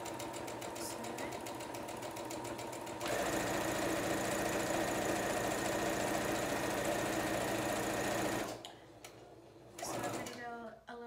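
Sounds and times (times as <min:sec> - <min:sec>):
electric sewing machine running: 0:00.0 - 0:08.6, 0:09.7 - 0:10.4.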